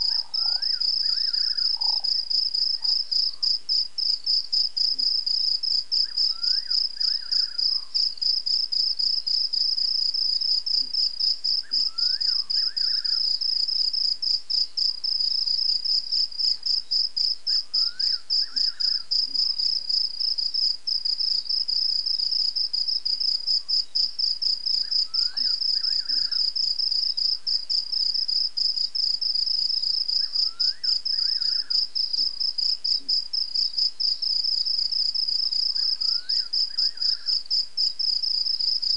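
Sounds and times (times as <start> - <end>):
insects chirping chorus: 0.0 - 38.9.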